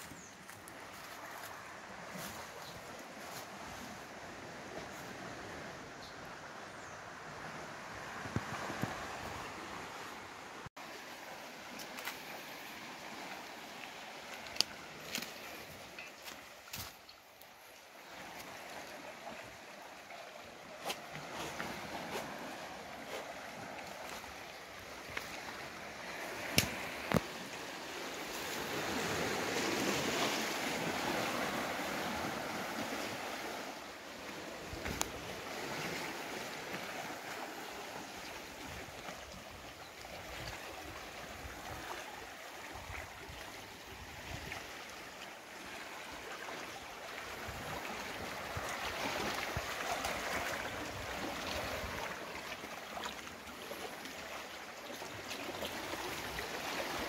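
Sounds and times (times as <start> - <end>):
waves lapping among boulders: 0.0 - 5.9, 7.4 - 57.0.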